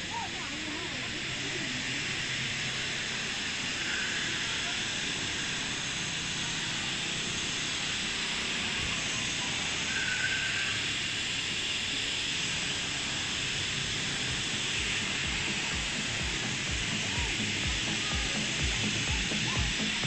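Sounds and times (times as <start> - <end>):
airport ambience hiss: 0.0 - 20.0.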